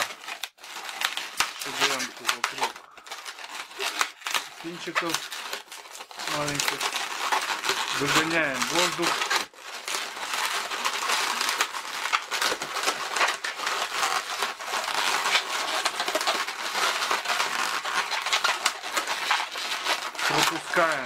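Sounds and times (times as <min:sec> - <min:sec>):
balloons rubbing and crinkling: 0:00.0 - 0:21.0.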